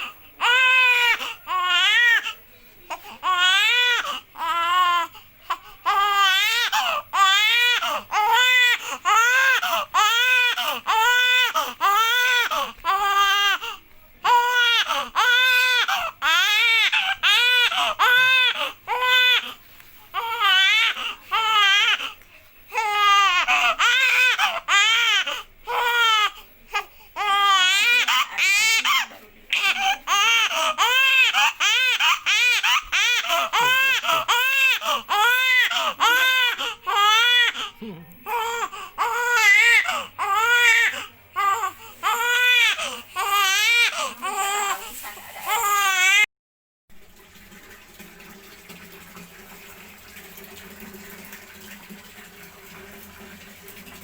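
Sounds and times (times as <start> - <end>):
baby crying: 0.0 - 19.6, 20.2 - 46.3.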